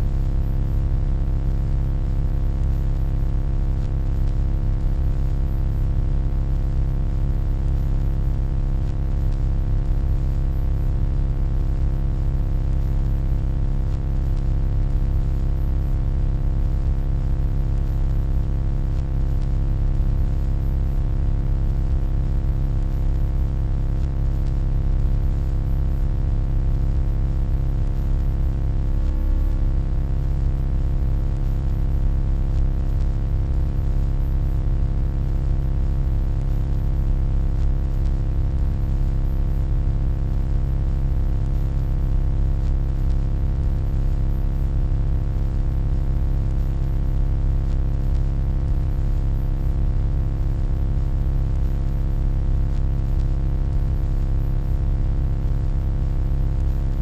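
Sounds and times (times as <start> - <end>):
low electronic hum: 0.0 - 45.0, 46.2 - 46.9, 47.7 - 48.2, 49.7 - 51.6, 56.2 - 57.0.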